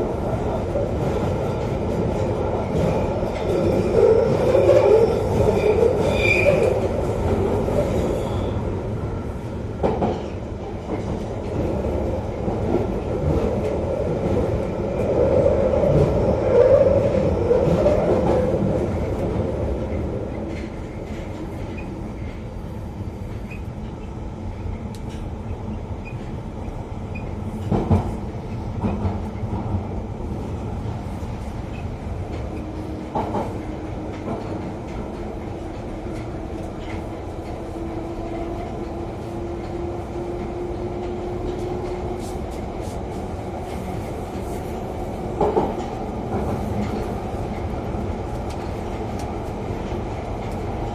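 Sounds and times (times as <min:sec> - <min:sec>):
underground train rumbling: 0:00.0 - 0:50.9.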